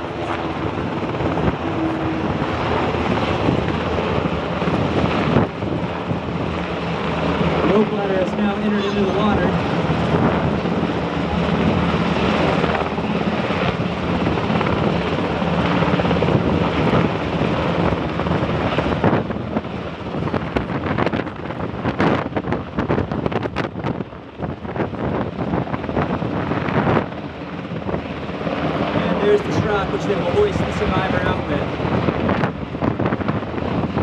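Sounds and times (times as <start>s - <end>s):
helicopter rotor drone: 0.0s - 34.0s
wind gusts on microphone: 0.0s - 34.0s.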